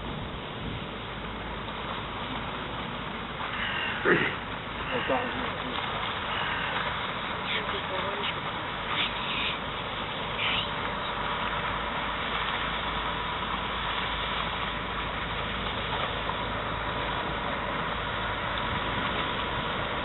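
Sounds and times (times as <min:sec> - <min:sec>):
ship engine droning: 0:00.0 - 0:20.0.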